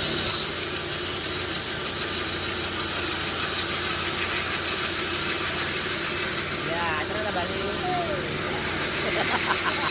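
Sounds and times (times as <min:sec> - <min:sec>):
engine idling with hiss: 0:00.0 - 0:09.9.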